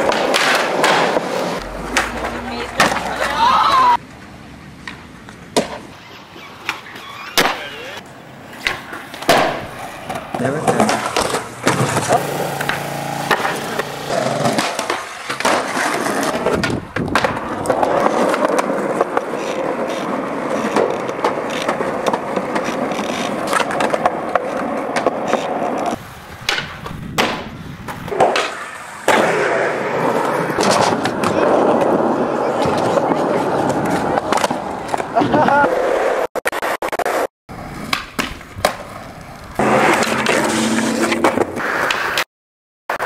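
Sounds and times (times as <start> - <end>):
skateboard clacks: 0.0 - 42.2
skateboard wheels rolling on concrete: 0.0 - 42.3.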